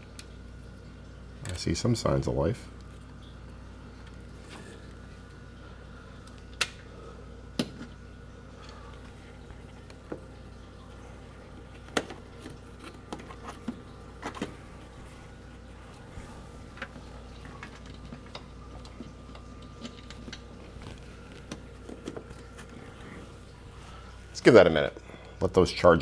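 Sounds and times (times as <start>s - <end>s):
low hum: 0.0s - 25.4s.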